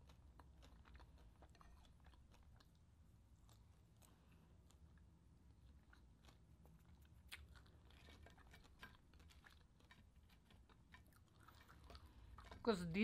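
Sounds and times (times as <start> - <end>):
crispy food chewing crunches: 0.0 - 13.0.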